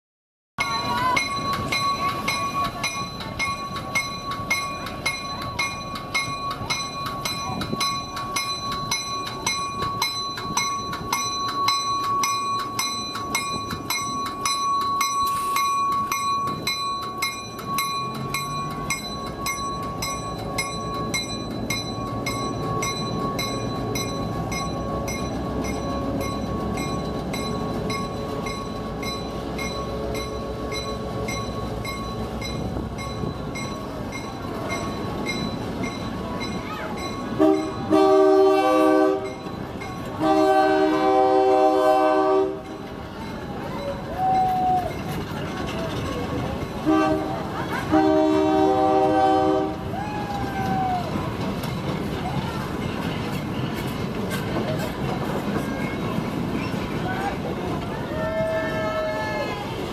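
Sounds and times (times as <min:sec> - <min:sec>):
diesel locomotive engine running: 0:00.6 - 0:59.9
locomotive bell ringing: 0:00.6 - 0:59.9
train coaches rolling past: 0:00.6 - 0:59.9.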